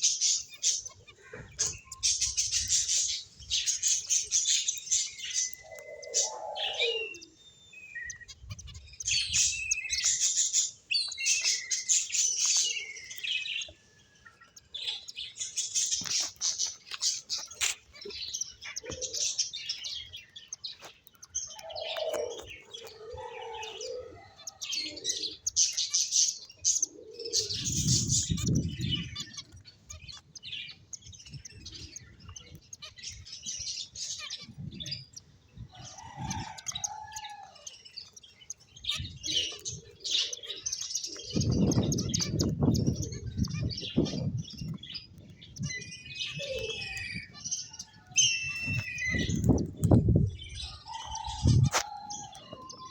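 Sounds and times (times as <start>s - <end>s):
finches chirping: 0.0s - 52.9s.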